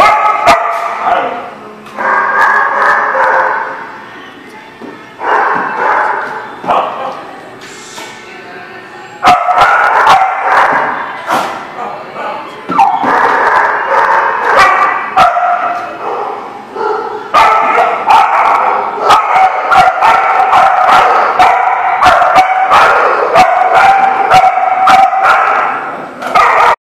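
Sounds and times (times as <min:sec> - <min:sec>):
dogs barking and yipping: 0:00.0 - 0:03.9, 0:05.2 - 0:07.0, 0:09.2 - 0:11.0, 0:12.2 - 0:26.8.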